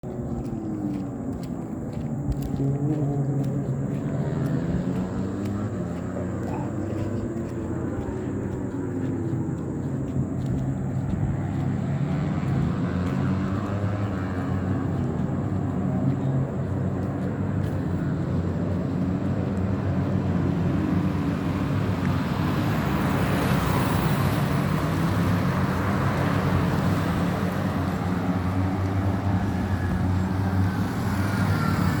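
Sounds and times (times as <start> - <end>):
racing motorcycle engines: 0.0 - 32.0.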